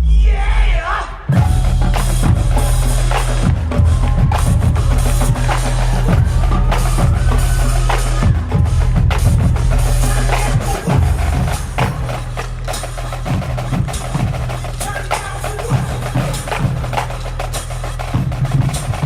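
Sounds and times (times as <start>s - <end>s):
drum strikes: 1.3s - 19.0s
marching band playing: 1.3s - 19.0s.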